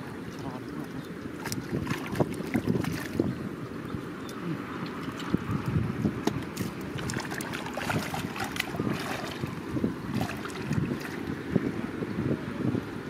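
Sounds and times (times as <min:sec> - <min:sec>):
muddy water sloshing and splashing: 0:00.0 - 0:03.4, 0:04.8 - 0:11.9
wind on microphone: 0:00.6 - 0:13.0.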